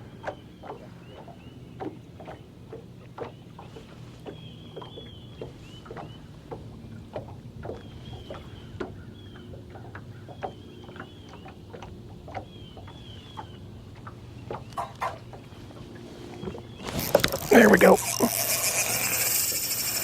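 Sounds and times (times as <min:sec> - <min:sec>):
boat motor hum: 0:00.0 - 0:20.0
small water splashes: 0:00.0 - 0:20.0.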